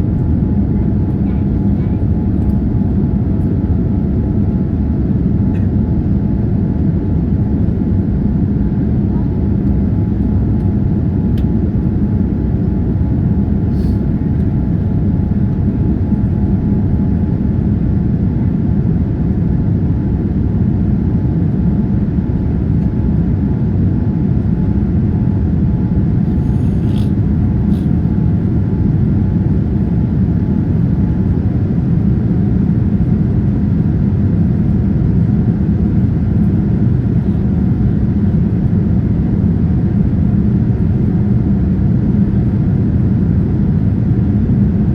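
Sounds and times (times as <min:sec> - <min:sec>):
airplane engines rumbling in cabin: 0:00.0 - 0:44.9.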